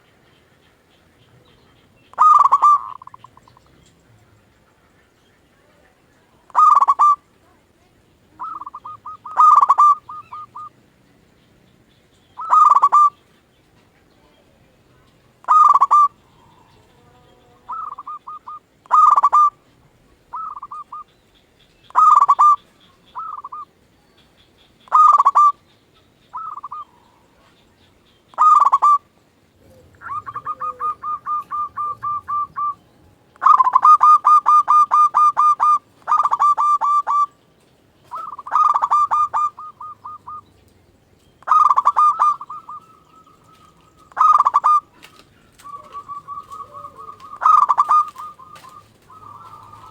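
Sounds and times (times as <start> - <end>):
dove cooing: 0.0 - 10.8, 12.4 - 13.4, 14.0 - 21.1, 21.8 - 23.8, 24.8 - 25.6, 26.3 - 40.6, 41.4 - 49.9
rapid evenly spaced bird notes: 0.0 - 49.9.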